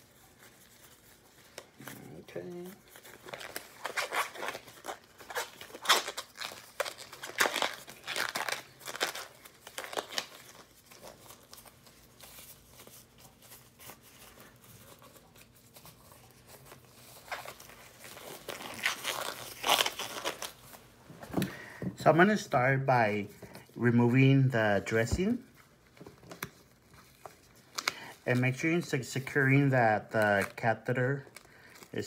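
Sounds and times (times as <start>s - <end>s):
plastic wrappers crinkling: 0.0s - 21.0s, 22.4s - 32.0s.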